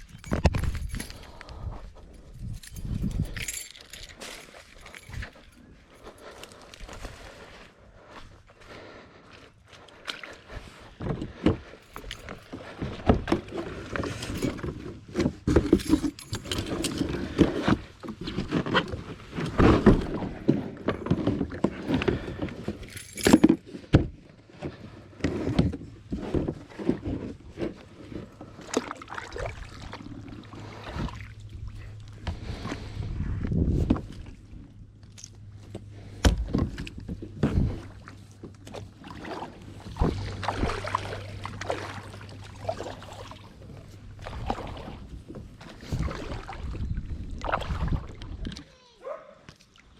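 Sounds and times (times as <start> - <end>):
gear knocking and rattling in kayak: 0.0 - 7.1, 10.5 - 48.6.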